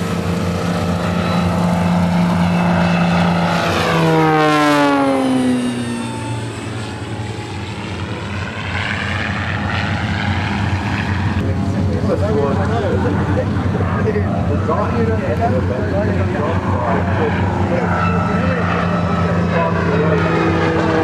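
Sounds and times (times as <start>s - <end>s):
propeller aircraft flying past: 0.0s - 21.0s.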